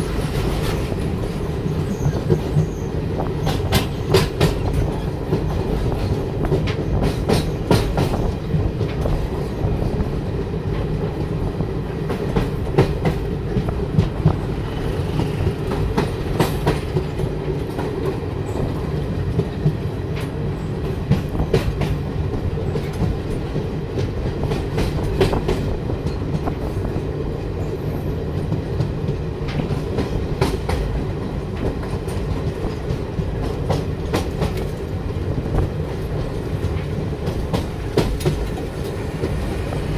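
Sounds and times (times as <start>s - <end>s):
clickety-clack over rail joints: 0.0s - 39.9s
train wheels rumbling on rails: 0.0s - 39.9s.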